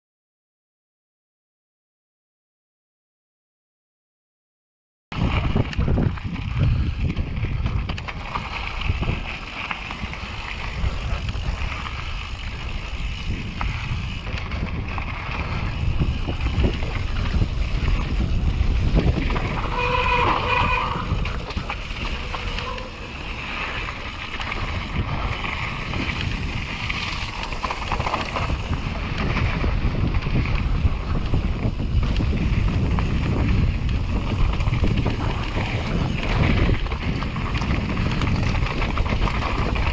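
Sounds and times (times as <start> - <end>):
bike rattling and clattering: 5.1 - 39.9
wind buffeting microphone: 5.1 - 39.9
tyres rumbling on gravel: 5.2 - 39.9.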